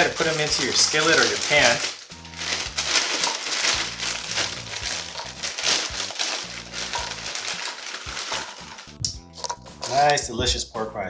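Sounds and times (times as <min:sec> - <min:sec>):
plastic snack bag crinkling: 0:00.0 - 0:09.0
background music: 0:00.0 - 0:11.0.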